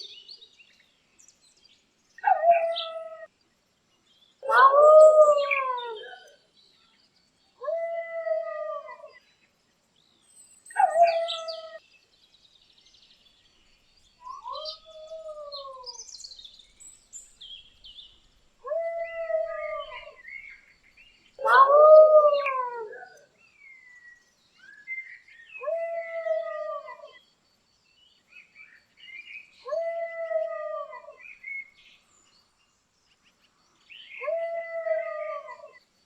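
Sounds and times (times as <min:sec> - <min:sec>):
faint bird chirps: 0:00.0 - 0:36.0.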